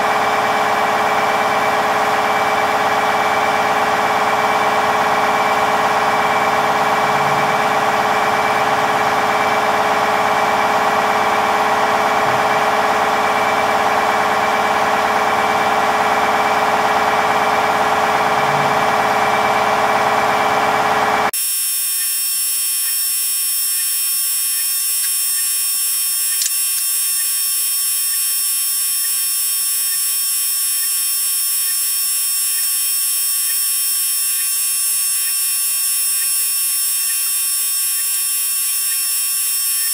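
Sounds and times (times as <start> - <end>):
press motor humming: 0.0 - 39.9.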